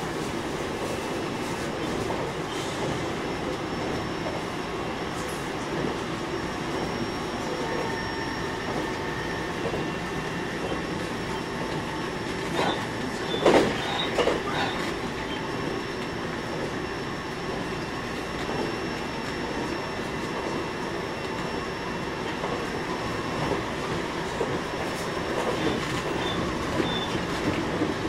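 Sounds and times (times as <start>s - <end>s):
train wheels rolling on rail: 0.0s - 28.0s.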